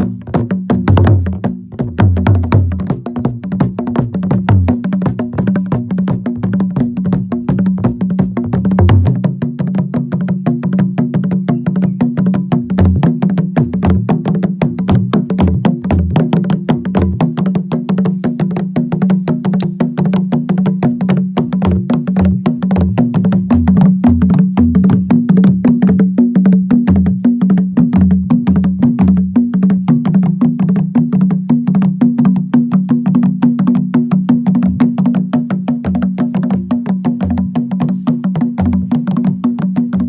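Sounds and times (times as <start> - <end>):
drums playing fast rhythm: 0.0 - 40.0.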